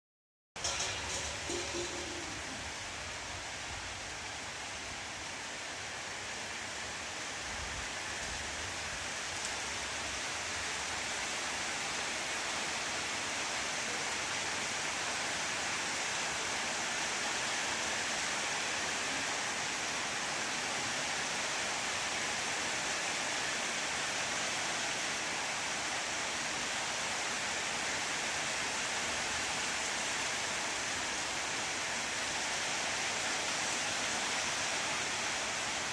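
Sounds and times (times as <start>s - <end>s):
steady rain falling: 0.6s - 35.9s.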